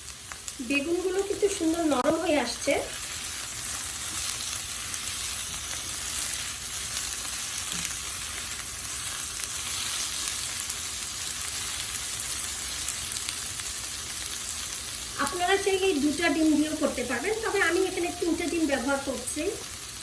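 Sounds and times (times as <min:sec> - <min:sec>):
eggplant frying in hot oil: 0:00.0 - 0:20.0.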